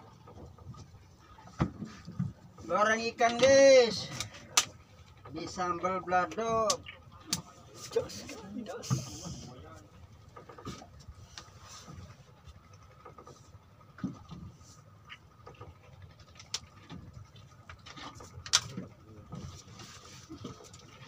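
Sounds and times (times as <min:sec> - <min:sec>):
faint water patter: 0:00.0 - 0:21.0
light knocks and clicks on boat: 0:00.0 - 0:21.0.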